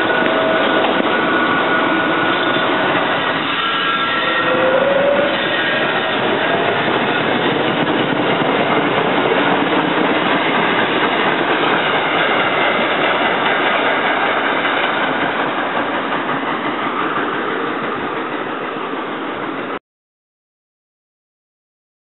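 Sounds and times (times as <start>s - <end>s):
electric train running past: 0.0s - 19.8s.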